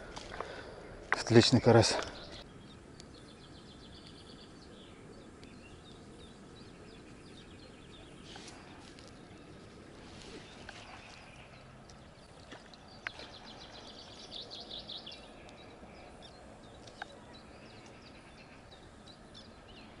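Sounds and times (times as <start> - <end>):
quiet outdoor background noise: 0.0 - 20.0
small birds chirping: 0.0 - 20.0.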